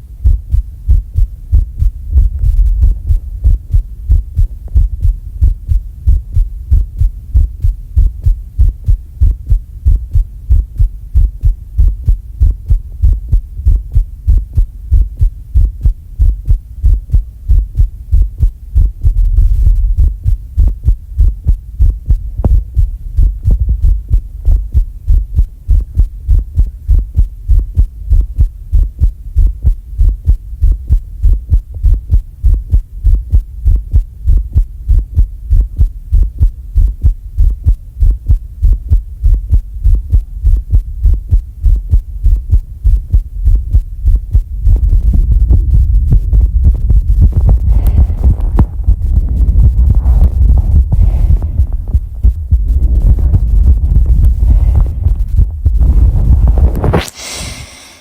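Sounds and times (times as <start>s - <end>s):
rapid heartbeat thumping: 0.0s - 57.1s
low rumble: 0.0s - 58.0s.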